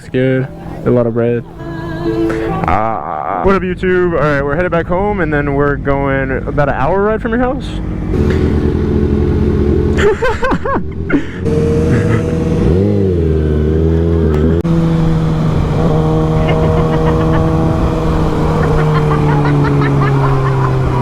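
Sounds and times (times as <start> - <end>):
motorcycle engine running: 0.0 - 2.9, 3.6 - 21.0.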